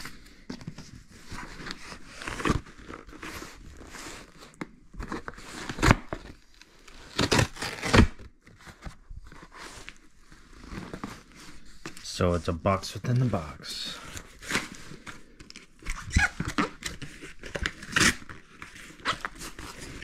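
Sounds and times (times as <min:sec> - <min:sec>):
cardboard rustling and scraping: 0:00.0 - 0:12.4, 0:13.0 - 0:20.0.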